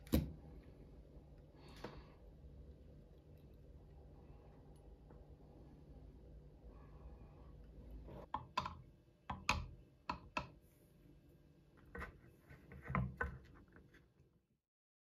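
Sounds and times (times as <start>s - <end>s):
faint hum: 0.0s - 12.6s.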